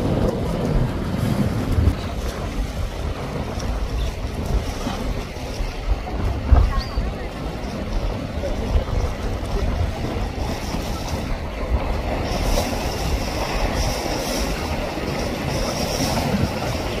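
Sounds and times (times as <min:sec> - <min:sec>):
breaking surf: 0:00.0 - 0:17.0
motorboat running hard: 0:00.0 - 0:17.0
wind buffeting microphone: 0:00.0 - 0:17.0.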